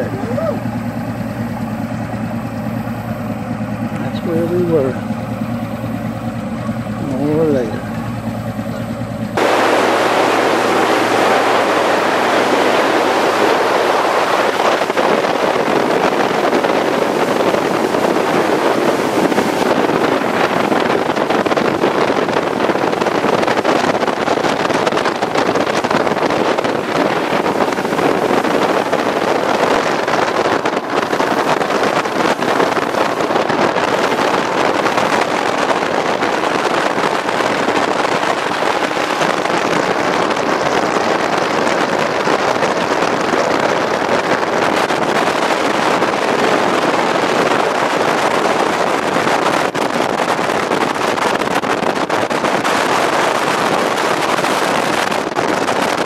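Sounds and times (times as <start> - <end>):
motorboat engine drone: 0.0 - 56.0
water rushing past hull: 0.0 - 56.0
wind on microphone: 0.0 - 56.0.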